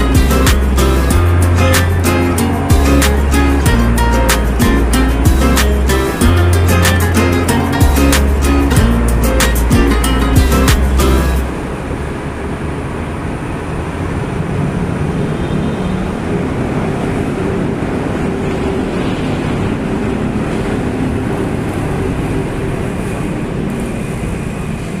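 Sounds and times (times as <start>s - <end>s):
light-rail train running: 0.0s - 25.0s.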